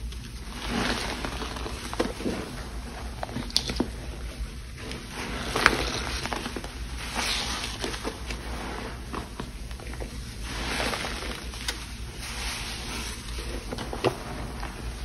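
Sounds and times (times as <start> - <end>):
wet foam crackling: 0.0 - 15.0.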